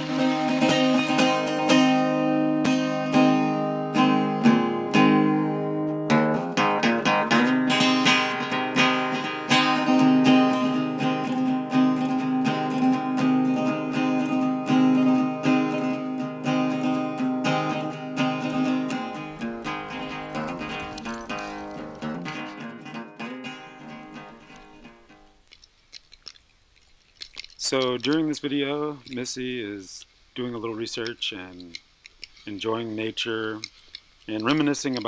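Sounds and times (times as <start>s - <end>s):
acoustic guitar music: 0.0s - 25.5s, 27.4s - 35.0s.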